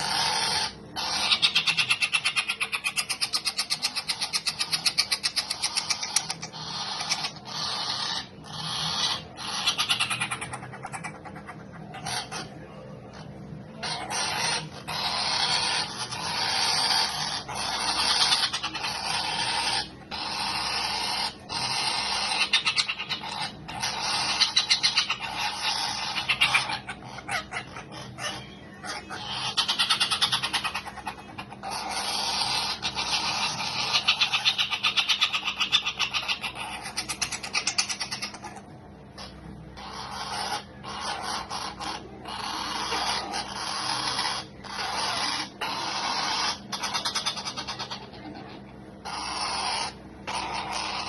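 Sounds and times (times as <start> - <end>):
cockatoo pulsing buzz calls: 0.0 - 12.6, 13.8 - 38.6, 39.2 - 51.0.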